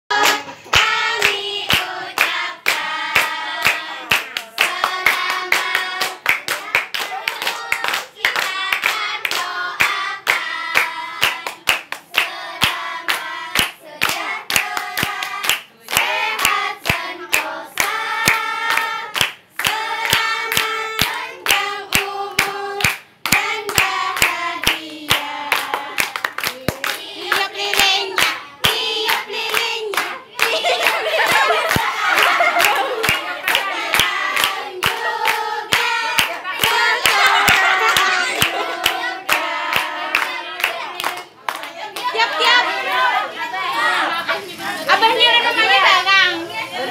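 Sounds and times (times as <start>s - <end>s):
hands clapping on the beat: 0.1s - 43.1s
group singing birthday song: 0.1s - 46.9s.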